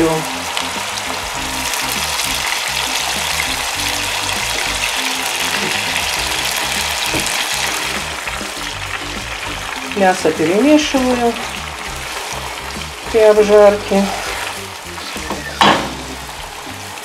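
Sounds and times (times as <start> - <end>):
background music: 0.0 - 17.0
chicken sizzling in oil: 0.0 - 17.0.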